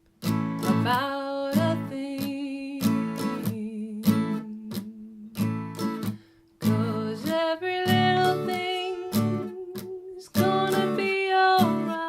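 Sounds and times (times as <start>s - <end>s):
acoustic guitar reggae strumming: 0.2s - 12.0s
woman singing: 0.7s - 5.5s, 6.6s - 12.0s.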